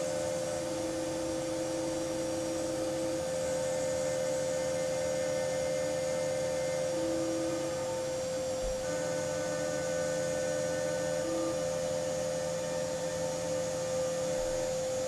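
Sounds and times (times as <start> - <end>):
steady electric hum: 0.0 - 15.0.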